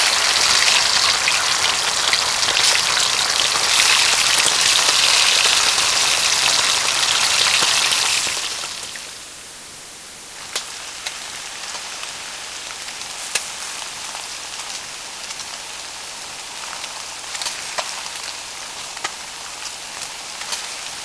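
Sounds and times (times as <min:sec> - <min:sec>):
oil popping and crackling: 0:00.0 - 0:09.1, 0:10.4 - 0:21.0
food sizzling in hot oil: 0:00.0 - 0:09.3, 0:10.3 - 0:21.0.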